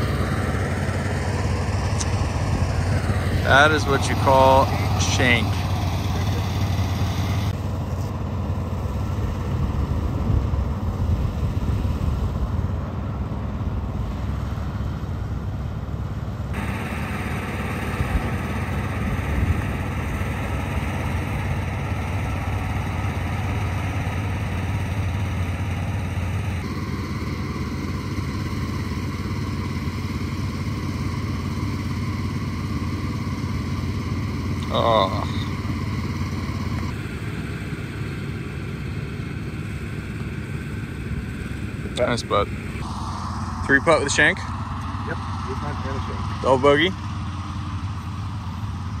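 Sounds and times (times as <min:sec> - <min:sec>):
golf cart running: 0:00.0 - 0:49.0.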